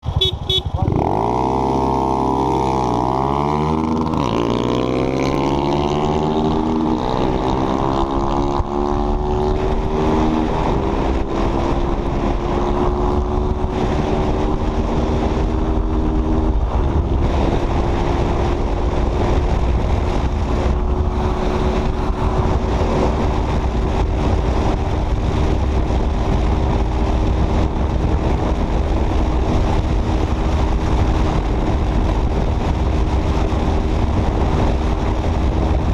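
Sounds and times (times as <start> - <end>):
motorcycle engine at full throttle: 0.0 - 35.9
wind noise on microphone: 0.0 - 35.9.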